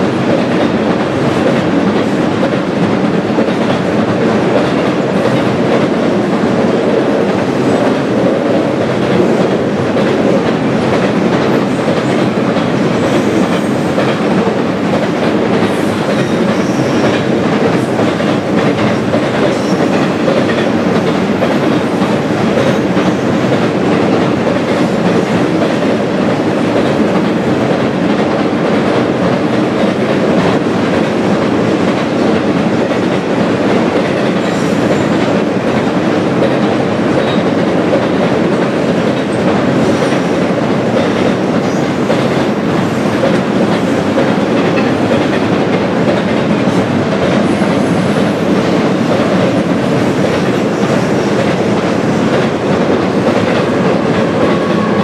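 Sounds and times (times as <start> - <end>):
clickety-clack over rail joints: 0.0 - 55.0
steel wheels rumbling on rail: 0.0 - 55.0.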